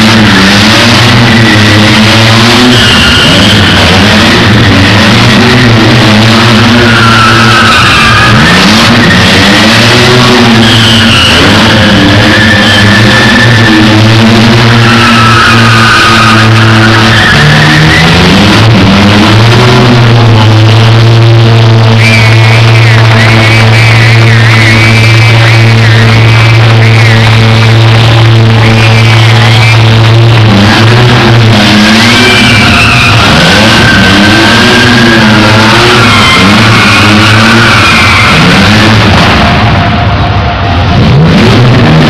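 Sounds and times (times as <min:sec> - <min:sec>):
tyres squealing: 0:00.0 - 0:40.0
car engine revving: 0:00.0 - 0:42.0.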